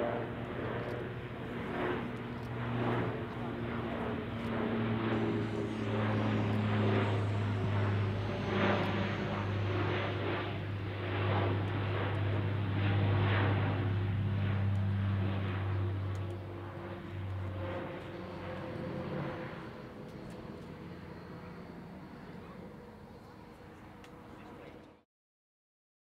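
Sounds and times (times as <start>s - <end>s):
turboprop aircraft flying overhead: 0.0s - 25.0s.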